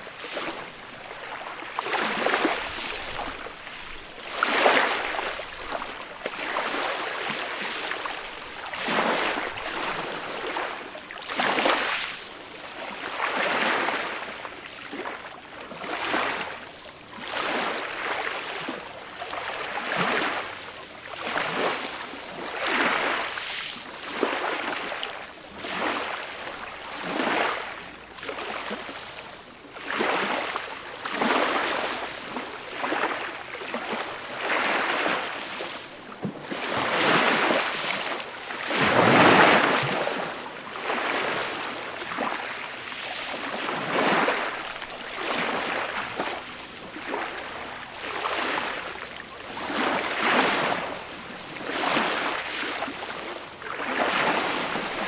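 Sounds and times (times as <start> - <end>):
small waves washing up beach: 0.0 - 55.0.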